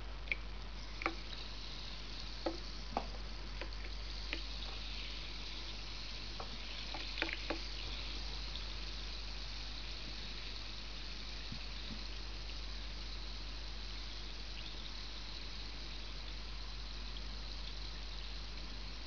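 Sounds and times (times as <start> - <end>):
carbonated water fizzing: 0.0 - 19.0.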